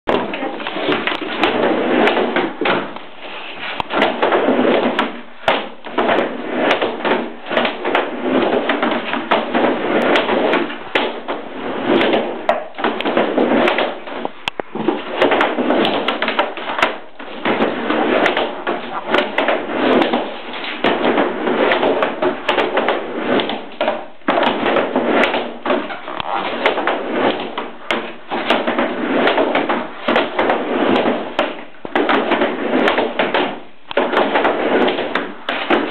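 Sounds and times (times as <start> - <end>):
skateboard wheels rolling on plywood: 0.0 - 35.9
skateboard clacking on wood: 3.8 - 35.9.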